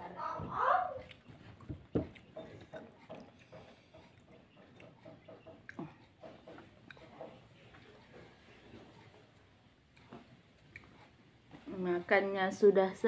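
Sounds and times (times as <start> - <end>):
chewing and mouth smacking: 1.0 - 11.5.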